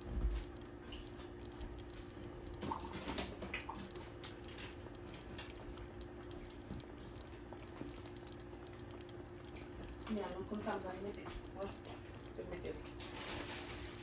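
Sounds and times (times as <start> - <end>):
porridge simmering with soft pops: 0.0 - 14.0.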